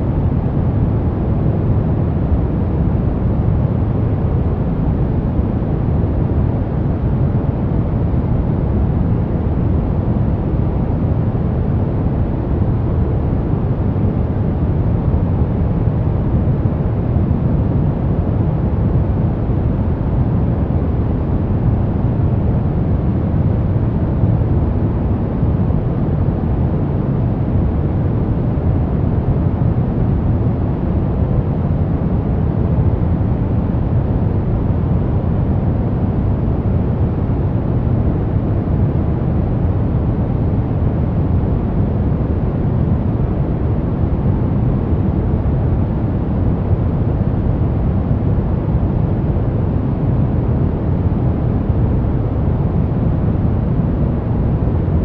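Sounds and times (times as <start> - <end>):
white noise: 0.0 - 55.0.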